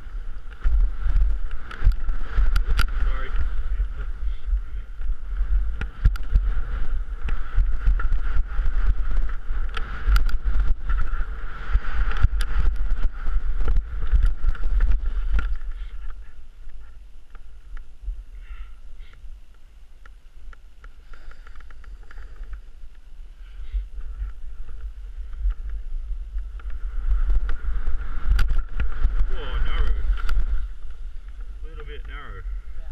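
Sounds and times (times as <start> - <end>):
skis scraping over bumpy snow: 0.0 - 17.7, 20.8 - 32.9
wind buffeting microphone: 0.0 - 32.9.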